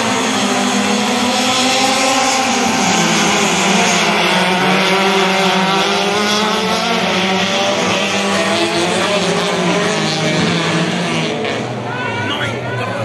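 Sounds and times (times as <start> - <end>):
race car engine running: 0.0 - 11.9.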